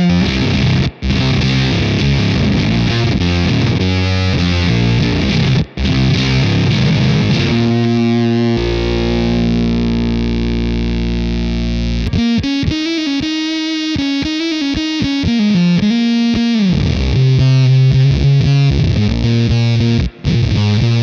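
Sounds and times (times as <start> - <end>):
fuzz electric guitar: 0.0 - 21.0.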